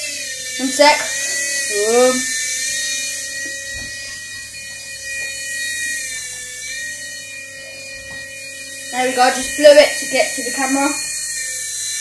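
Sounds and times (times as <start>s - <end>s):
small propeller motor whining: 0.0s - 12.0s.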